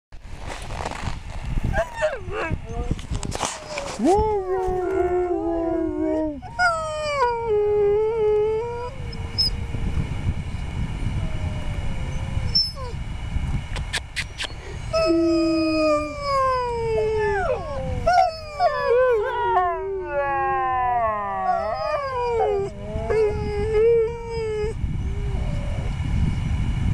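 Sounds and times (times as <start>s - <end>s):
low rumble: 0.2s - 26.9s
huskies howling and whining: 1.7s - 13.0s, 14.5s - 26.1s.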